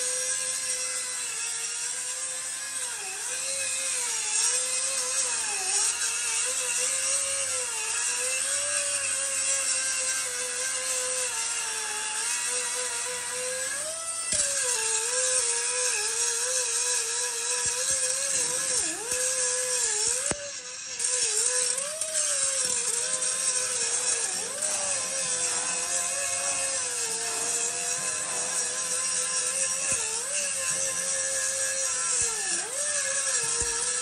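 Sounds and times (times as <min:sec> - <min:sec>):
power tool motor whining: 0:00.0 - 0:34.0.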